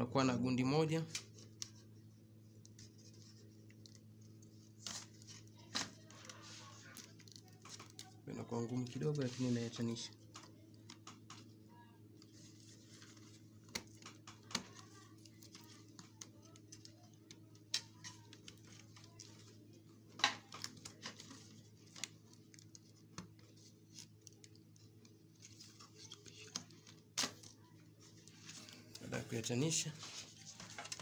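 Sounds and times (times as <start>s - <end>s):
low electrical hum: 0.0s - 31.0s
small clicks and scratches: 1.1s - 29.2s.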